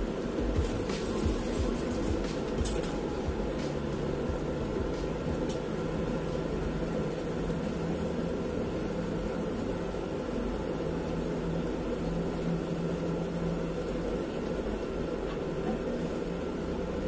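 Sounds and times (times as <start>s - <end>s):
food simmering hiss: 0.0s - 17.0s
stove humming: 0.0s - 17.0s.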